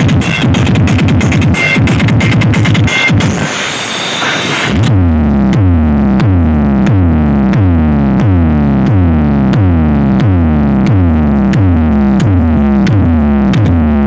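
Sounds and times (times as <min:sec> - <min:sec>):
deep synth bass drops: 0:00.0 - 0:03.4, 0:04.6 - 0:14.0
electronic hard-bass music: 0:00.0 - 0:14.0.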